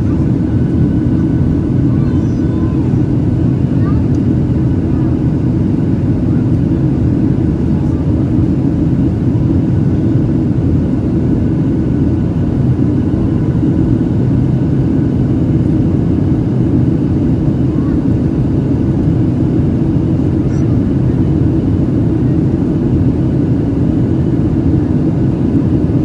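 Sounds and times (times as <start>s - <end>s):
low engine rumble and rushing air: 0.0s - 26.0s.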